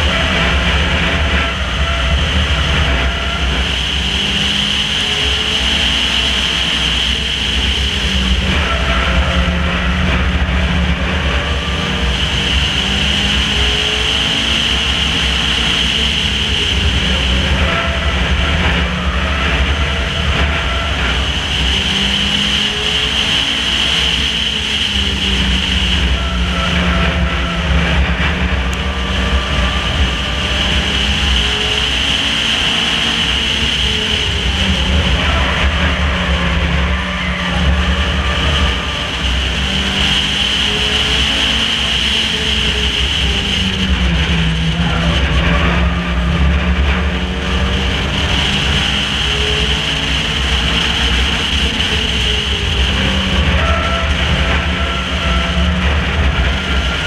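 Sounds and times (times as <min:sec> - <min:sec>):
race car engine: 0:00.0 - 0:57.0
wind and tyre noise: 0:00.0 - 0:57.0.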